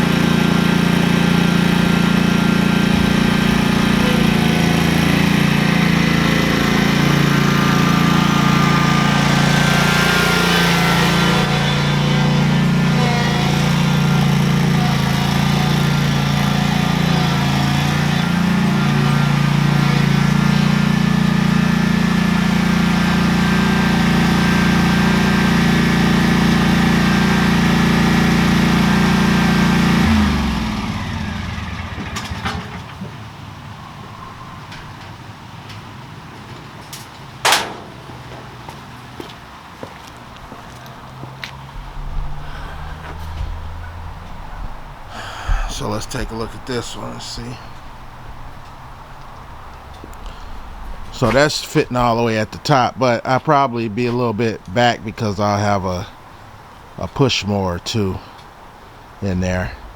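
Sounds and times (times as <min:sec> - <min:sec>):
engine idling: 0:00.0 - 0:35.2, 0:35.9 - 0:59.9.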